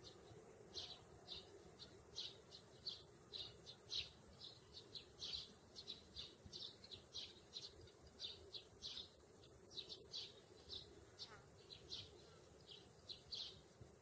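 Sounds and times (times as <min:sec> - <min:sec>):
sparrows chirping: 0:00.0 - 0:14.0.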